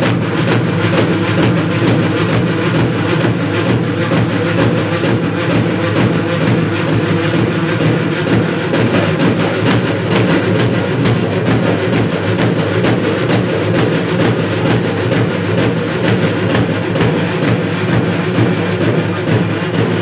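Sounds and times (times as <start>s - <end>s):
loud fast drumming: 0.0s - 20.0s.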